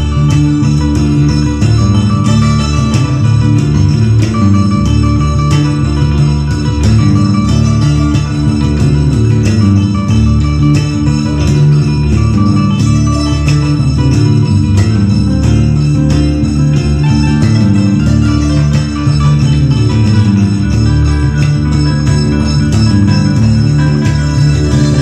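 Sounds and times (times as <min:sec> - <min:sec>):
electric bass line: 0:00.0 - 0:25.0
plucked acoustic guitar: 0:00.0 - 0:25.0
ringing plucked strings: 0:00.0 - 0:25.0.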